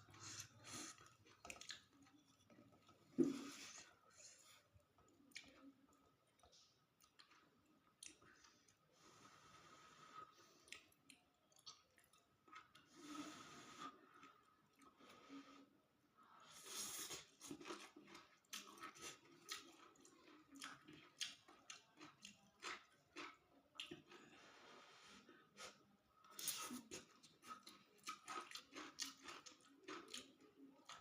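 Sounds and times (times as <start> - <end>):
soft chewing: 0.0 - 31.0.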